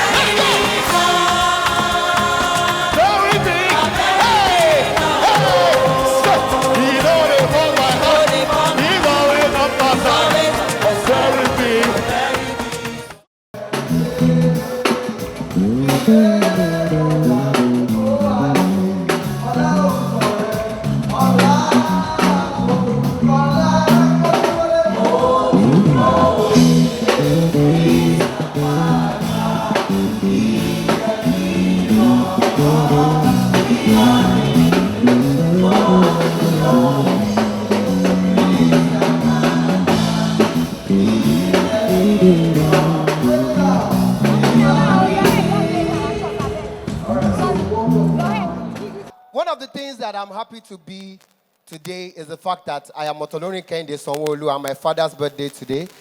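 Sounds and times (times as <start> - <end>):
music with singing and drums: 0.0 - 49.1.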